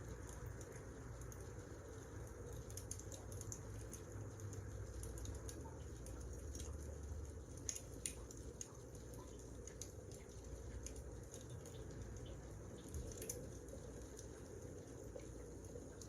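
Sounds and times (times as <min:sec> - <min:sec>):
firewood crackling: 0:02.4 - 0:16.0.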